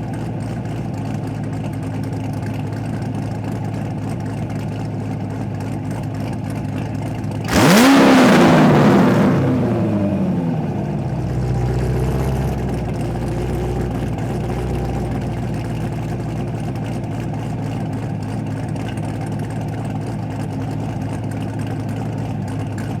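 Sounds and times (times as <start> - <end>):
car engine idling choppily: 0.0 - 23.0.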